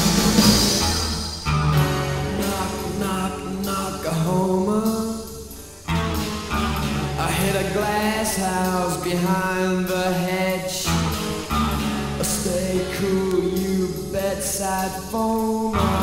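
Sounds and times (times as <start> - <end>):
alternative rock guitars and bass: 0.0 - 16.0.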